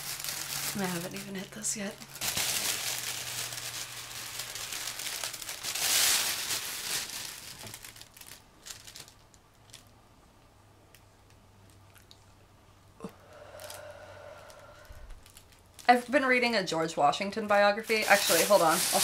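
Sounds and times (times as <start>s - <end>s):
plastic bag crinkling: 0.0s - 10.0s, 13.4s - 19.0s.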